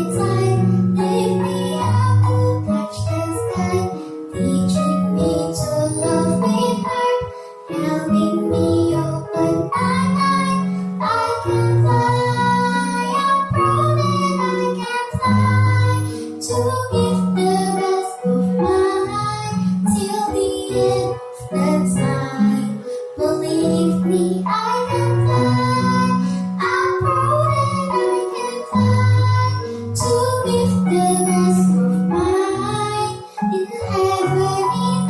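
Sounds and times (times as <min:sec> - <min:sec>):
child singing: 0:00.0 - 0:35.0.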